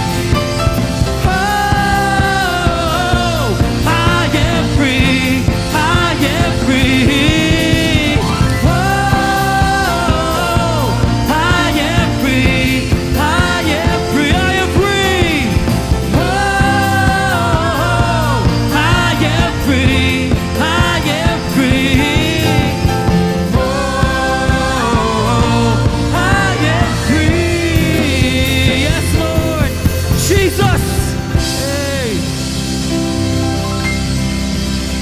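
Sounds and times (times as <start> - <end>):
live rock band playing: 0.0 - 35.0
sliding lead melody: 0.0 - 35.0.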